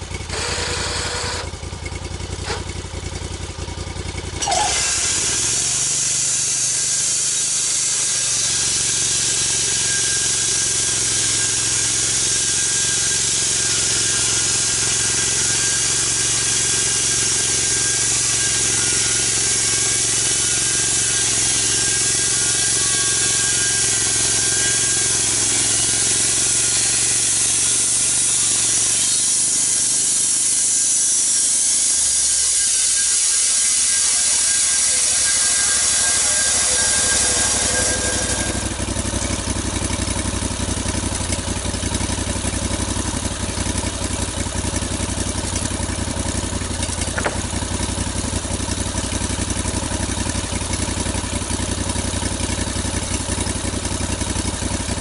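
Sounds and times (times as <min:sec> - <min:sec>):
saw blade cutting wood: 0:00.0 - 0:01.5, 0:02.4 - 0:02.8, 0:04.4 - 0:55.0
sawmill engine running: 0:00.0 - 0:55.0.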